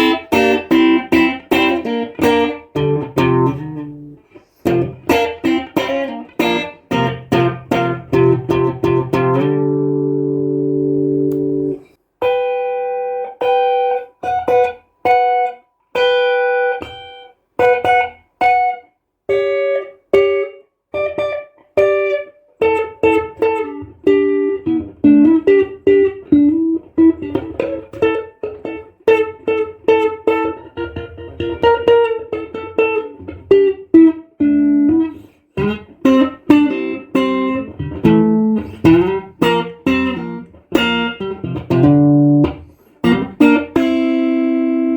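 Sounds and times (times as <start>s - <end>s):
clean electric guitar: 0.0s - 44.9s.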